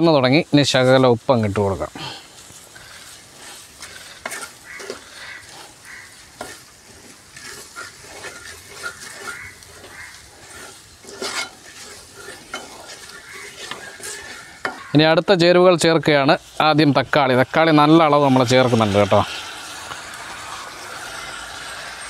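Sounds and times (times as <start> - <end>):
onions sizzling in oil: 0.0 - 22.0
wooden spatula scraping a pan: 0.6 - 22.0.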